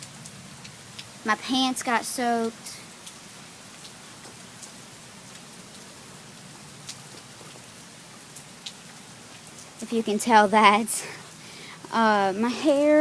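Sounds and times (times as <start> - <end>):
rain hissing: 0.0 - 13.0
raindrops ticking on surfaces: 0.0 - 13.0.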